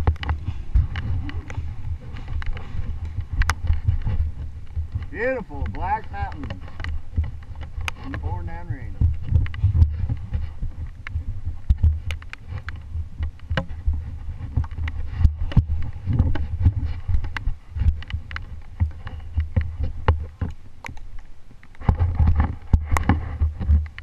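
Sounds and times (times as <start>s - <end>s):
dirt bike engine rumbling: 0.0s - 20.8s
sharp taps and knocks: 0.0s - 24.0s.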